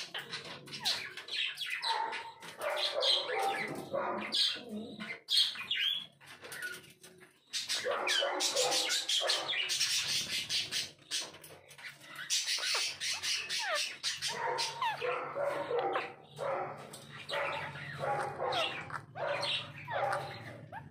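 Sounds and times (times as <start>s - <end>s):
parakeets squawking and chattering: 0.0s - 20.9s.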